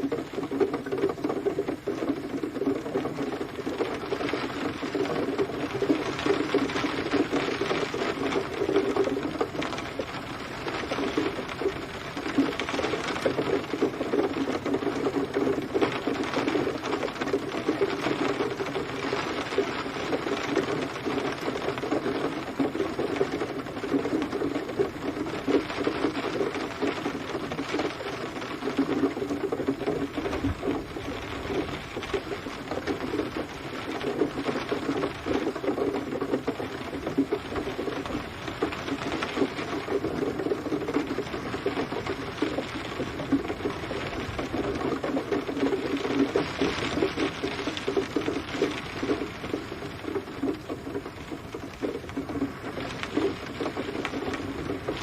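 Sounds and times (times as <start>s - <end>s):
rain pattering on hard surface: 0.0s - 55.0s.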